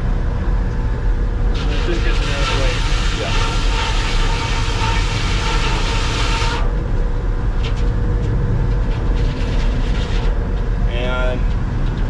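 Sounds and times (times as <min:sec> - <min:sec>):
sawmill machinery drone: 0:00.0 - 0:12.0.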